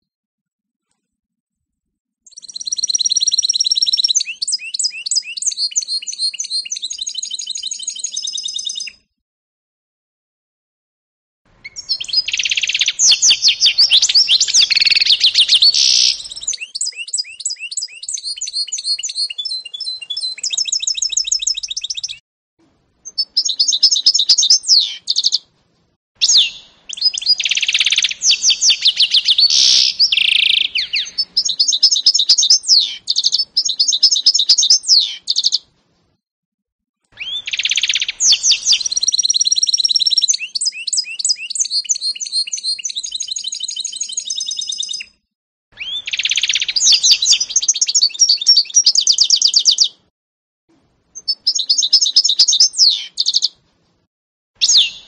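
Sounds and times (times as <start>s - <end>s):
bird singing trills and chirps: 2.3s - 9.1s, 11.6s - 22.2s, 23.0s - 25.5s, 26.2s - 35.6s, 37.2s - 50.0s, 51.1s - 53.6s, 54.6s - 55.0s.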